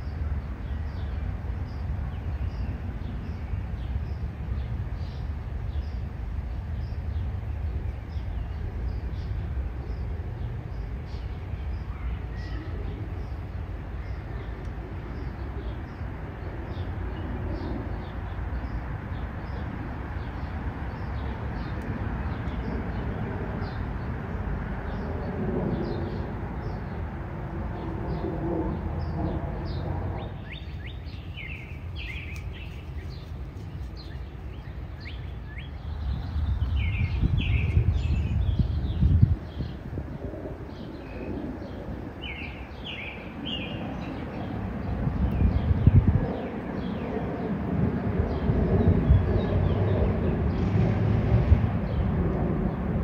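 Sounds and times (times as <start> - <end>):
small birds chirping: 0.0 - 24.2, 27.8 - 47.5
low outdoor rumble: 0.0 - 53.0.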